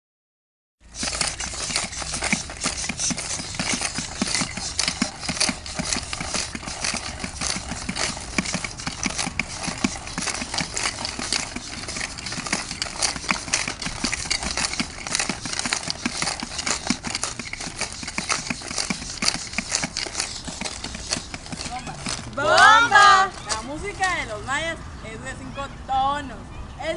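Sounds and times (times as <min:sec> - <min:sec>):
shaker rattling: 0:00.8 - 0:24.2.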